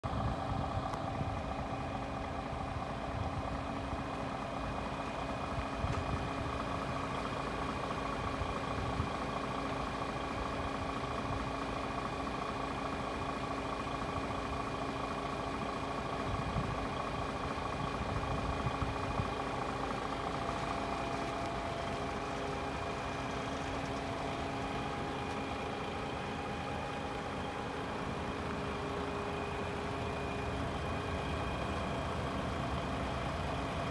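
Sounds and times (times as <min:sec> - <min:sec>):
truck diesel engine idling: 0:00.0 - 0:33.9.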